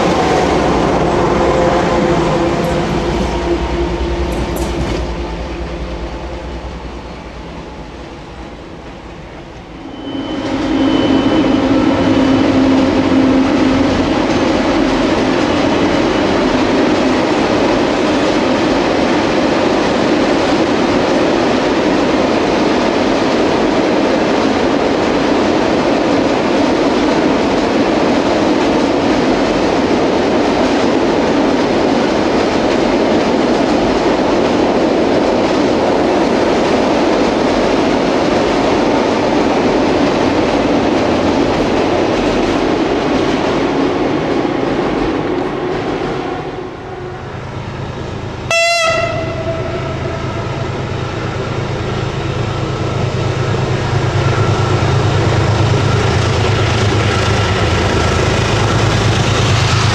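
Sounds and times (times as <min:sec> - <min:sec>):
diesel locomotive engine: 0:00.0 - 0:59.9
freight train crossing steel bridge: 0:00.0 - 0:59.9.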